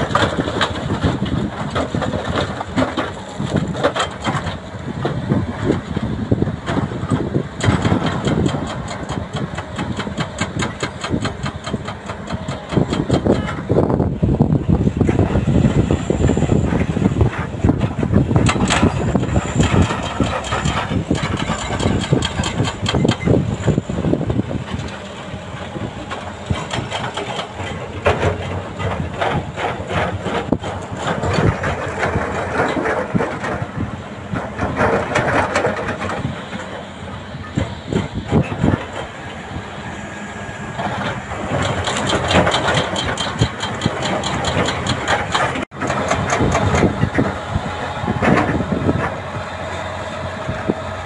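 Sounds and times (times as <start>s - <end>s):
dump truck moving off: 0.0s - 51.0s
excavator diesel engine: 0.0s - 51.0s.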